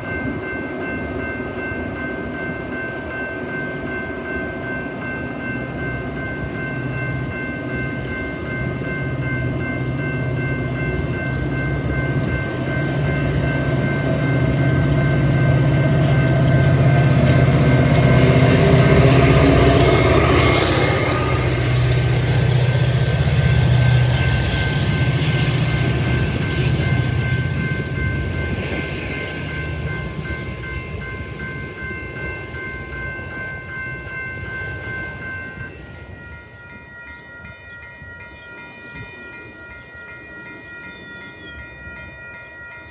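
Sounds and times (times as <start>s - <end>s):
train wheel noise: 0.0s - 42.8s
diesel locomotive engine drone: 0.0s - 42.9s
rail clicks: 0.0s - 42.9s.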